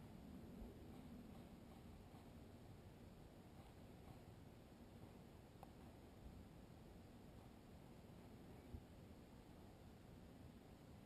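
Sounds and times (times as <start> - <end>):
faint low rumble: 0.0 - 11.0.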